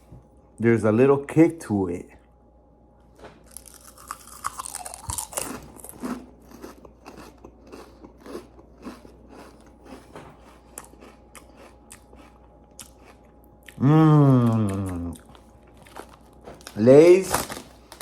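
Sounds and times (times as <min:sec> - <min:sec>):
potato chips being chewed: 0:03.4 - 0:18.0.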